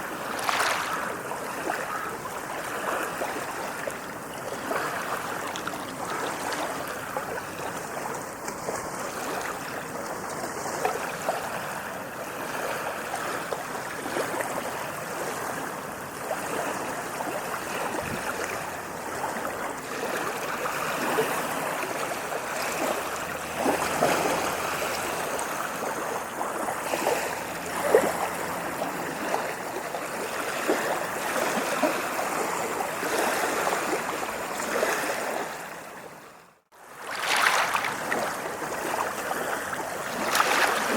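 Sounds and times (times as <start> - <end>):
water splashes: 0.0 - 36.2, 36.8 - 40.9
ocean waves lapping on shore: 0.0 - 40.9.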